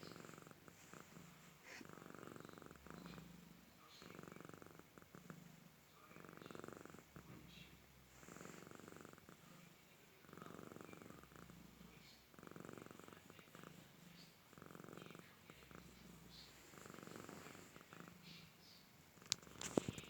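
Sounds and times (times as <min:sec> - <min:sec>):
faint snoring: 0:00.0 - 0:18.6.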